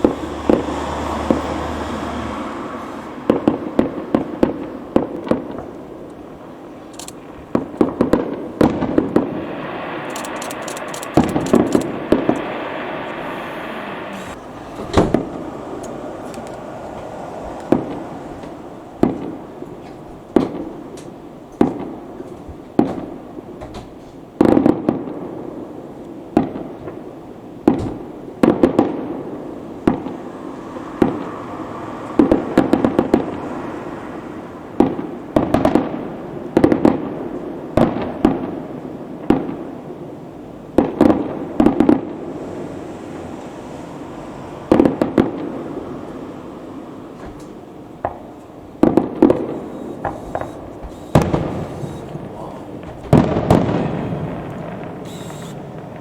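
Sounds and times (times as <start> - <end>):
fireworks bangs echoing: 0.0 - 56.0
rumble of distant fireworks: 0.0 - 56.0.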